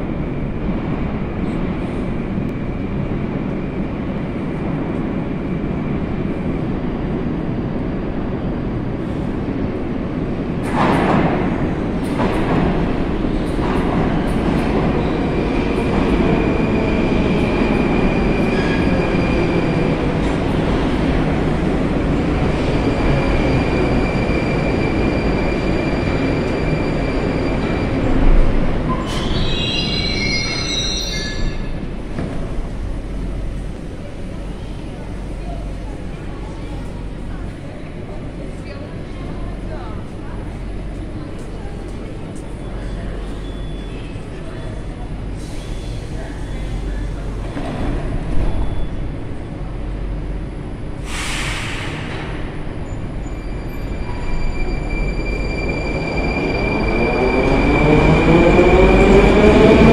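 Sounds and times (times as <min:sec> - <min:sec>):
falling tone of slowing train: 0:00.0 - 0:59.9
metro train rumble: 0:00.0 - 0:59.9.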